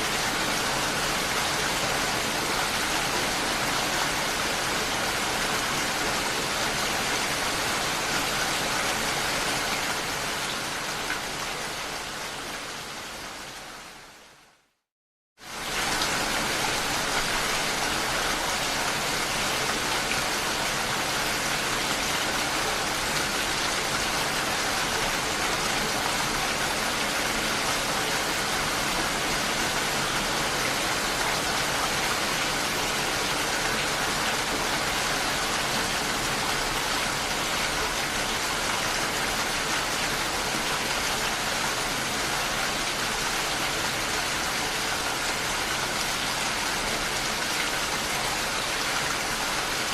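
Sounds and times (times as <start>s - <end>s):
steady rain falling: 0.0s - 14.8s, 15.4s - 49.9s.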